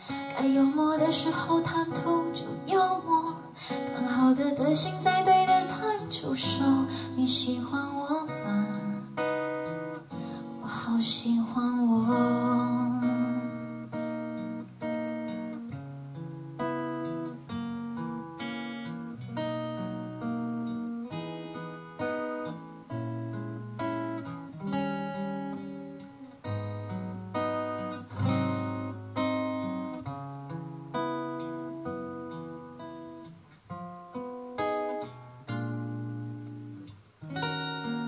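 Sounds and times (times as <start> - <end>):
acoustic guitar chords: 0.0 - 38.0.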